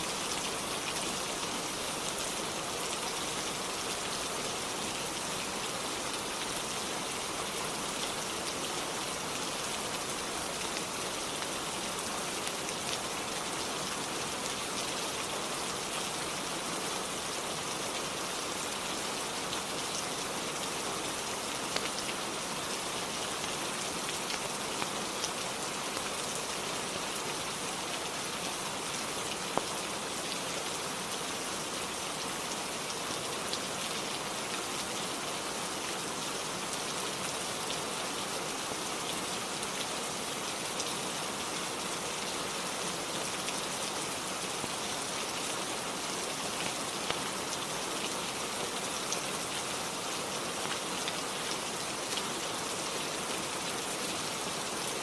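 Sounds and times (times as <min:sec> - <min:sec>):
rain on a surface: 0:00.0 - 0:55.0.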